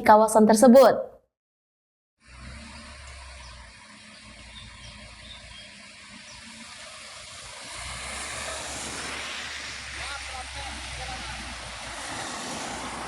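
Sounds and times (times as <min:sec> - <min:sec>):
outdoor hiss: 0:02.2 - 0:13.0.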